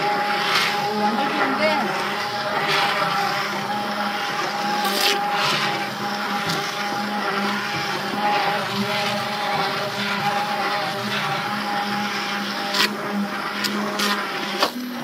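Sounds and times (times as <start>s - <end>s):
electric hand blender running: 0.0s - 15.0s.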